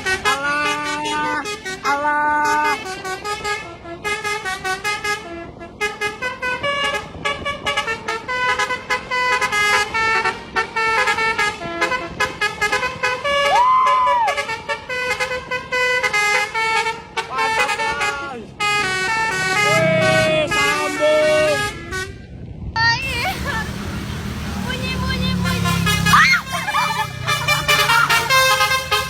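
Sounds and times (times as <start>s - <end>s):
bus musical horn melody: 0.0s - 29.0s.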